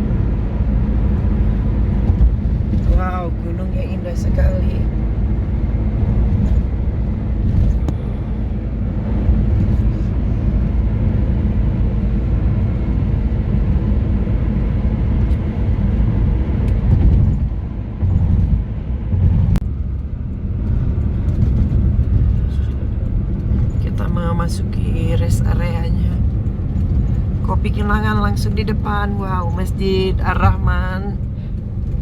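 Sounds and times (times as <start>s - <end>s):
car driving interior rumble: 0.0s - 32.0s.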